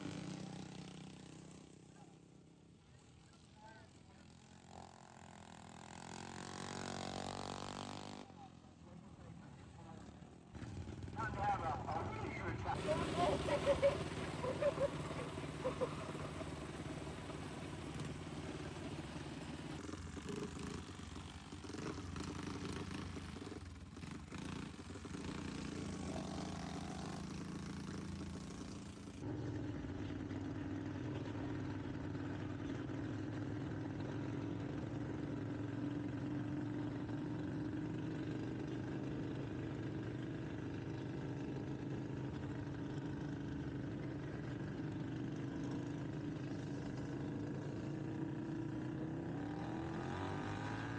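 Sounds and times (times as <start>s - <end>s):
lawnmower engine running at speed: 0.0s - 50.9s.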